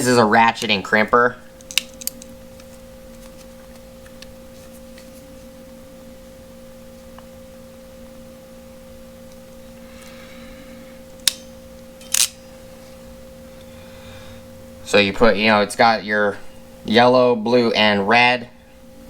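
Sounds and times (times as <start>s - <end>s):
steady hum-like tone: 0.0s - 19.0s.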